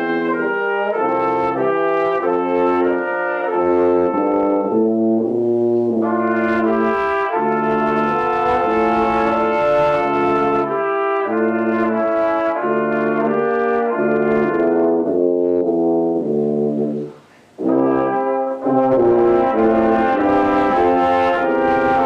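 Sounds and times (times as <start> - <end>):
low brass instrument playing: 0.0 - 22.0
trumpet playing: 0.0 - 22.0.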